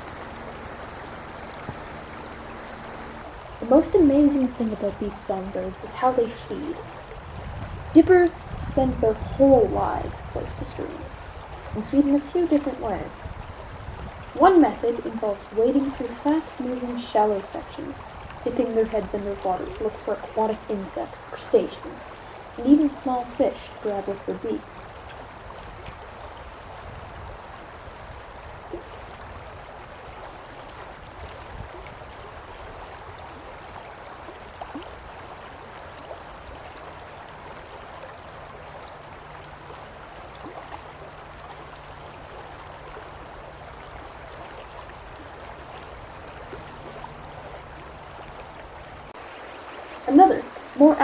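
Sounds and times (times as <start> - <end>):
stream rushing over rocks: 0.0 - 51.0.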